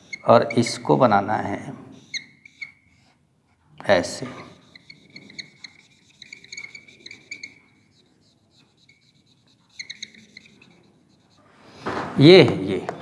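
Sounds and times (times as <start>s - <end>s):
marker squeaking on whiteboard: 0.0s - 13.0s.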